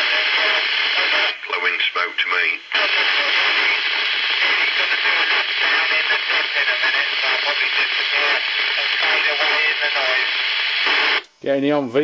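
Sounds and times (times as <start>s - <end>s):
faint voice over radio: 0.0s - 10.4s
radio static hiss: 0.0s - 11.2s.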